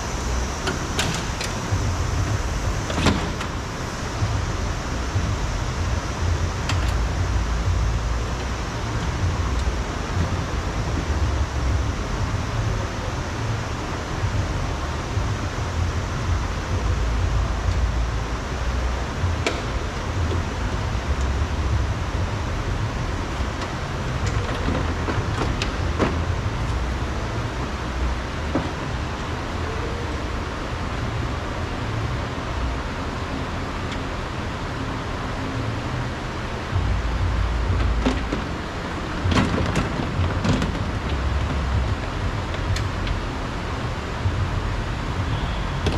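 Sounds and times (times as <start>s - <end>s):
steady hiss: 0.0s - 45.9s.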